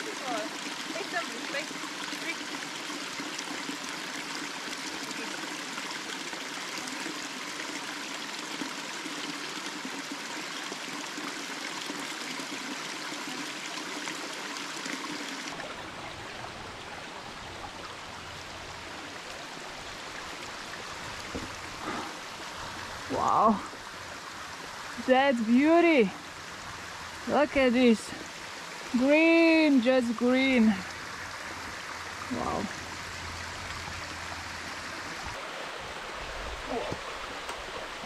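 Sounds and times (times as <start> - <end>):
water trickling and splashing: 0.0 - 38.0.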